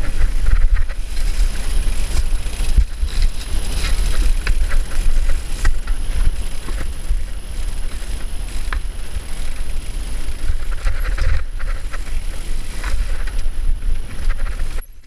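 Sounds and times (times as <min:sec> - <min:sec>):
bike rattling over rocks: 0:00.0 - 0:15.0
tyres running over dirt and stones: 0:00.0 - 0:15.0
wind rumble on microphone: 0:00.0 - 0:15.0.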